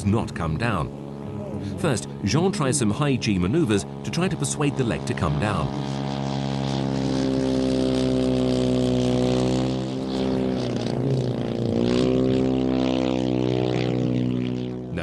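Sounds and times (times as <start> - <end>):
model airplane engine: 0.0 - 15.0.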